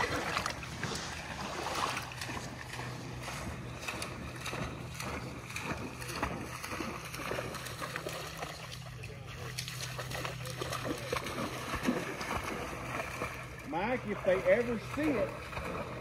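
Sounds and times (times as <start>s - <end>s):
dog splashing through water: 0.0s - 16.0s.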